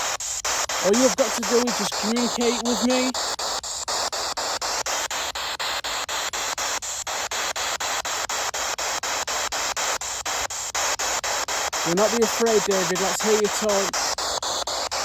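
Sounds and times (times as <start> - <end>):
radio static hiss chopped: 0.0 - 15.0.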